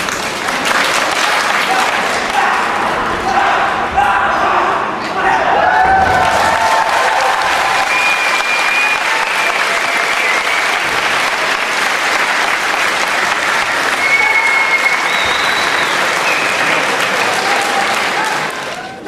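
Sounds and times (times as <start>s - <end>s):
crowd applauding: 0.0s - 3.0s, 5.7s - 19.0s.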